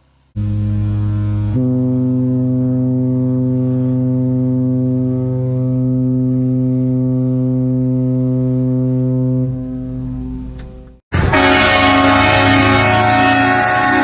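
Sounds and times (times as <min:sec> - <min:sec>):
deep horn blowing steady note: 0:00.4 - 0:14.0.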